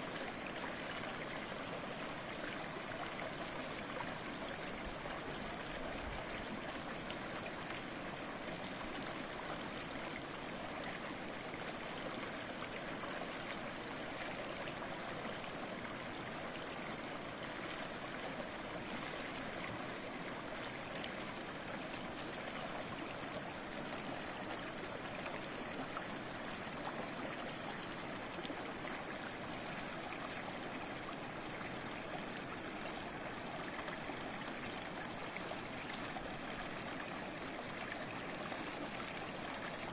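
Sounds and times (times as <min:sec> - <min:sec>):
stream of water babbling: 0:00.0 - 0:39.9.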